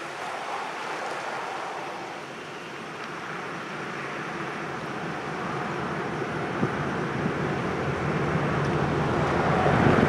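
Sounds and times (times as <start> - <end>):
truck road noise: 0.0 - 10.0.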